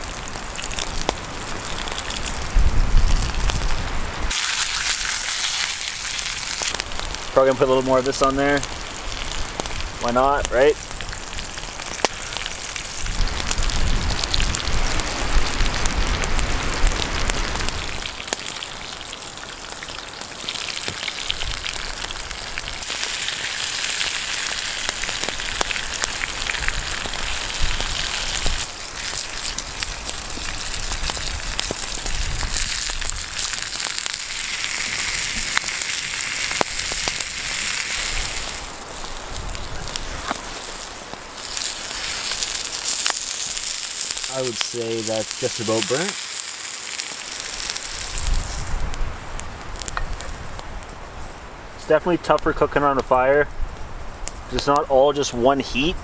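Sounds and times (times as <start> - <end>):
food sizzling in a pan: 3.1 - 7.4, 8.0 - 50.4.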